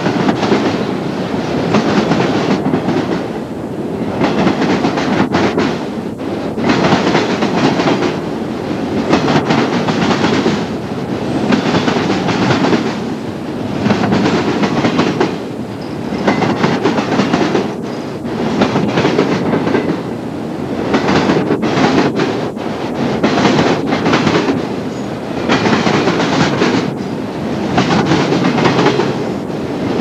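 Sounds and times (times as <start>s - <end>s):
train wheels clacking on rail joints: 0.0s - 20.2s, 20.8s - 30.0s
train rumble: 0.0s - 30.0s.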